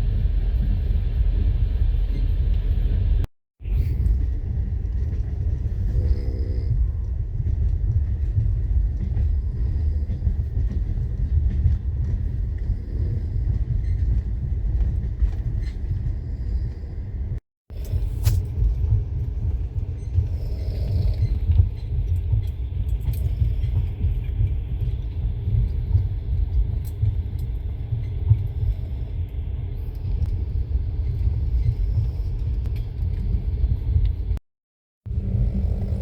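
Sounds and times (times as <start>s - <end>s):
vehicle rumble: 0.0s - 34.4s, 35.1s - 36.0s.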